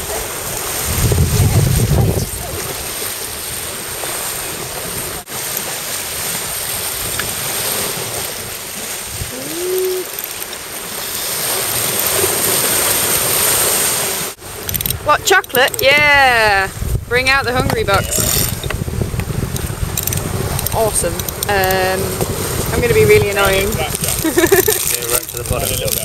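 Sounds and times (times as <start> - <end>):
wind buffeting microphone: 0.0 - 5.3, 6.2 - 10.1, 14.4 - 26.0
wind and water rushing: 0.0 - 26.0.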